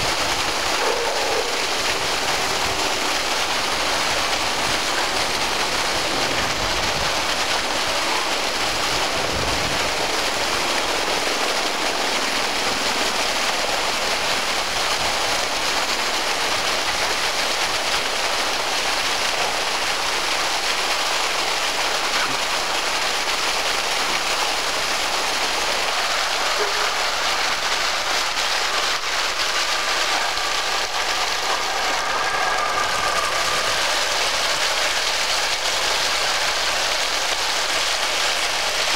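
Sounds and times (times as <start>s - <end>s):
water gushing onto pavement: 0.0s - 38.9s.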